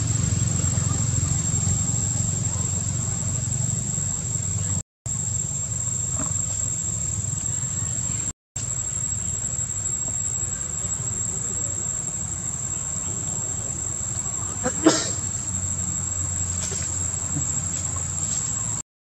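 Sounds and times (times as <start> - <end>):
high-pitched insect drone: 0.0 - 18.8.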